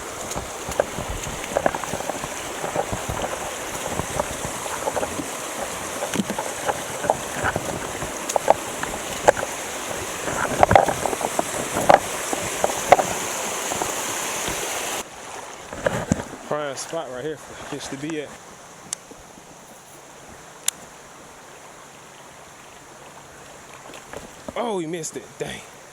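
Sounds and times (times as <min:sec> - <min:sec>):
steady rushing water hiss: 0:00.0 - 0:25.9
water splashing around a kayak: 0:00.0 - 0:25.9.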